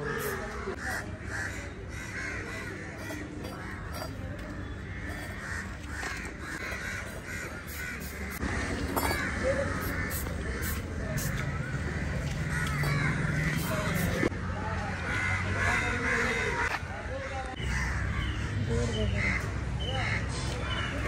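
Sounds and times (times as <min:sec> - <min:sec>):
crows cawing: 0:00.0 - 0:14.3, 0:15.1 - 0:18.6.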